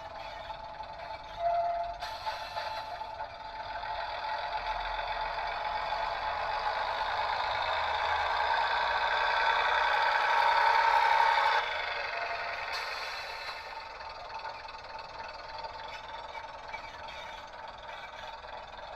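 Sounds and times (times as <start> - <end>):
model train diesel engine sound: 0.0 - 18.9.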